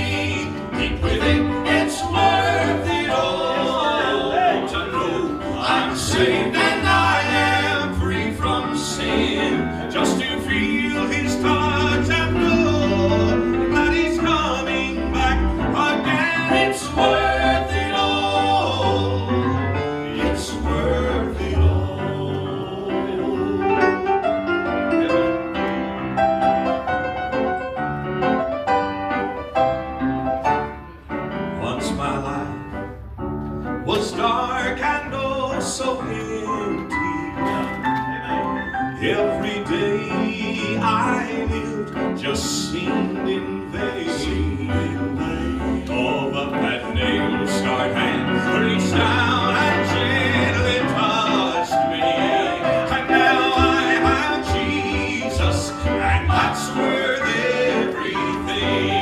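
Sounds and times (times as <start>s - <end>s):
voices singing gospel: 0.0s - 24.6s, 33.8s - 59.0s
piano: 0.0s - 59.0s.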